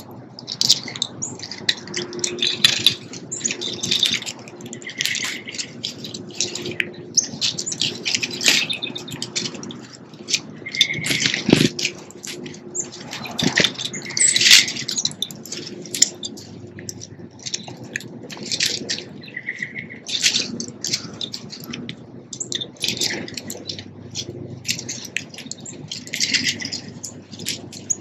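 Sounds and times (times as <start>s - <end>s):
small songbirds chirping: 0.0s - 28.0s.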